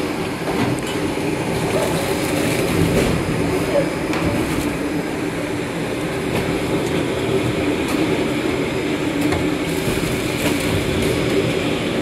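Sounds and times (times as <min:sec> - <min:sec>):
shrink-wrapping machine humming: 0:00.0 - 0:12.0.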